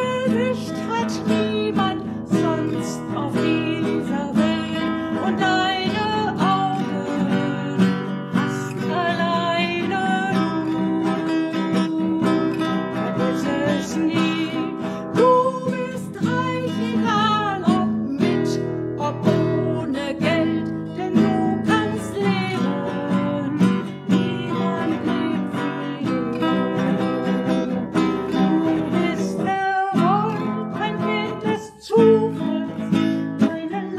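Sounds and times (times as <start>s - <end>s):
nylon-string guitar strumming chords: 0.0s - 33.9s
person singing: 0.0s - 33.9s.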